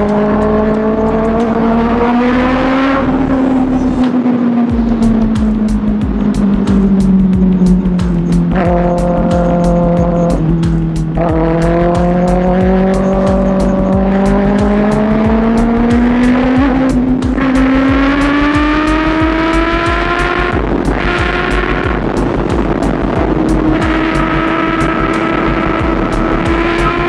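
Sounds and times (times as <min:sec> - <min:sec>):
motorcycle engine accelerating: 0:00.0 - 0:27.0
wind buffeting microphone: 0:02.1 - 0:27.0.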